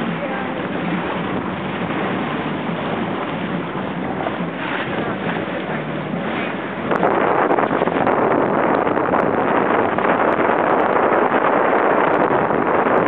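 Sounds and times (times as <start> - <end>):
water rushing past boat: 0.0 - 13.0
wind buffeting microphone: 0.0 - 13.0.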